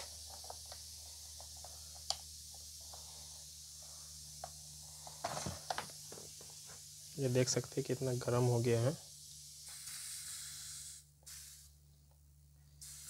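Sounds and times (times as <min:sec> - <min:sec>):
faint hiss: 0:00.0 - 0:11.9, 0:12.7 - 0:13.0.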